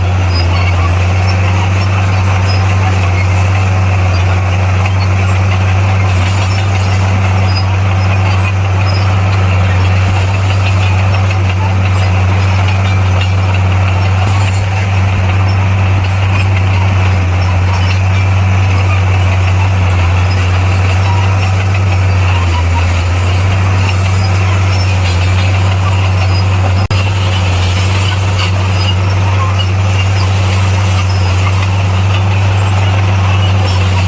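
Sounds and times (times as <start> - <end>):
diesel engine humming: 0.0 - 34.0.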